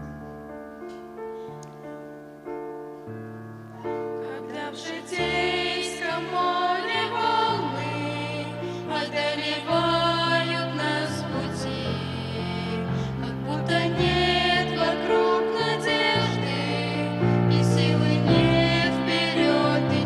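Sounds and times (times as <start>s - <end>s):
choir singing: 3.8s - 20.0s.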